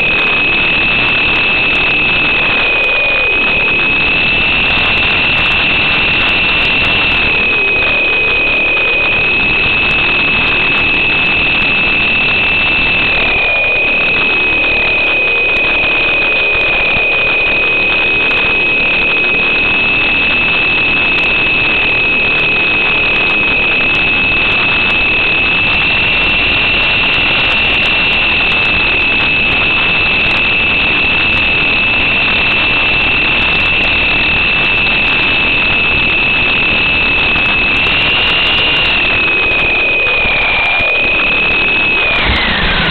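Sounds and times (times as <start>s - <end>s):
rc helicopter motor whine: 0.0s - 42.9s.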